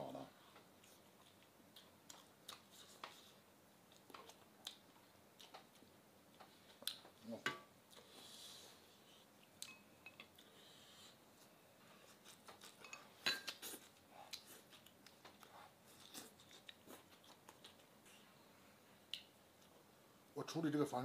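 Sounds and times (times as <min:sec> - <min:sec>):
soft chewing: 0:00.2 - 0:20.0.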